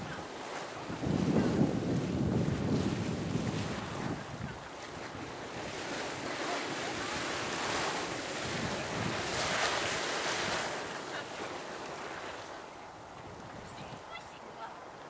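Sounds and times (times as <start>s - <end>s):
geyser water rushing: 0.0s - 13.4s
wind buffeting microphone: 0.0s - 15.0s.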